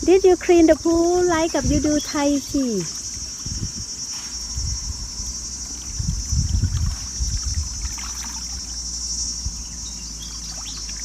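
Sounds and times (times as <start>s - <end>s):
crickets chirping: 0.0s - 11.0s
low irregular rumbling: 0.0s - 11.0s.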